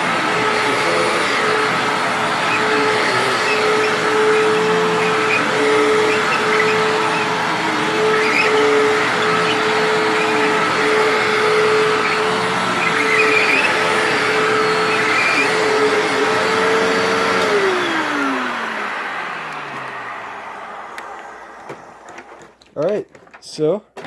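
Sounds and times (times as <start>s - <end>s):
upright vacuum cleaner running: 0.0s - 22.5s.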